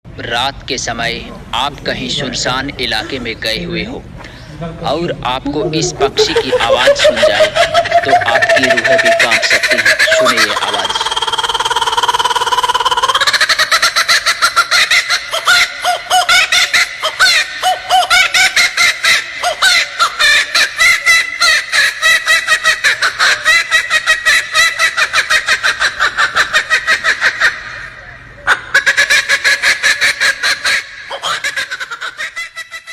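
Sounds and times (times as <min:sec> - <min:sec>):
bird calling rapidly: 0:05.4 - 0:32.9.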